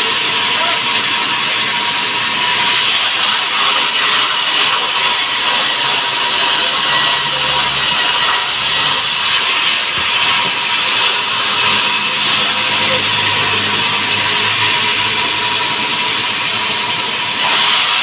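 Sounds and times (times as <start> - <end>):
band saw running: 0.0 - 18.0.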